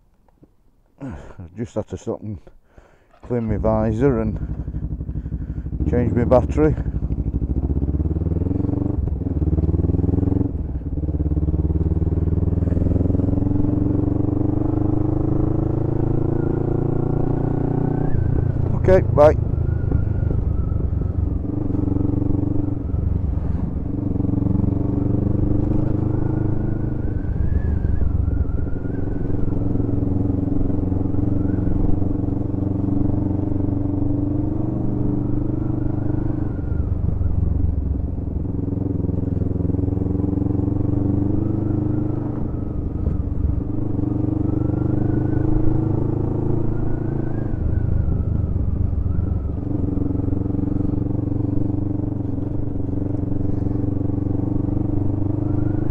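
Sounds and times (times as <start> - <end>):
motorcycle engine running: 3.1 - 55.9.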